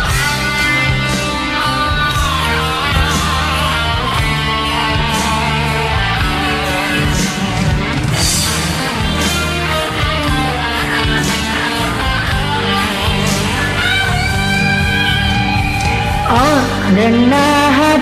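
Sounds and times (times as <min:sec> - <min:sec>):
band music led by guitar: 0:00.0 - 0:18.0
steady bass line: 0:00.0 - 0:18.0.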